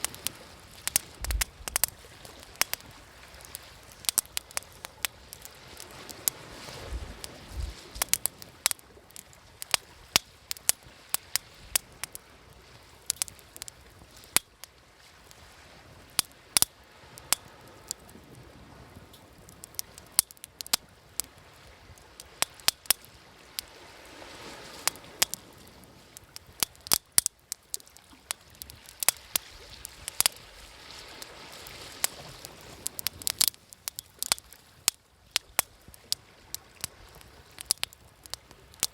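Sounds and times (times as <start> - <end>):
wood fire crackling: 0.0 - 23.8, 24.4 - 38.9
waves washing: 0.0 - 38.9.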